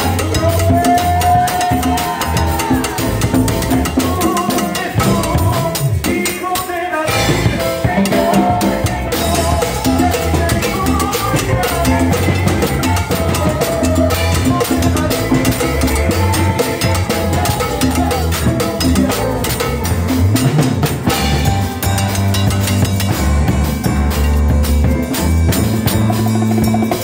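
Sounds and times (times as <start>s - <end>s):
live band playing: 0.0s - 27.0s.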